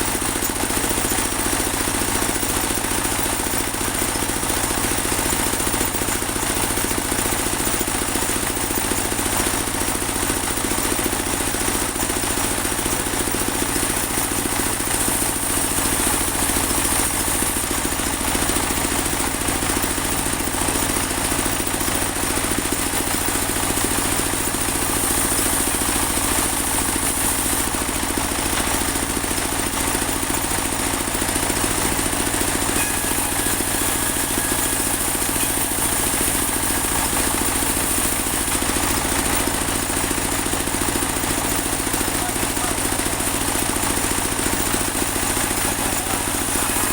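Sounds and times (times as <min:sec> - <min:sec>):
sawmill running: 0:00.0 - 0:46.9.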